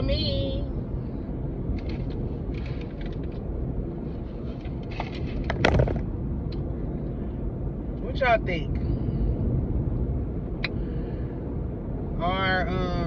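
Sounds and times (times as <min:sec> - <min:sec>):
car engine idling rumble: 0:00.0 - 0:13.0.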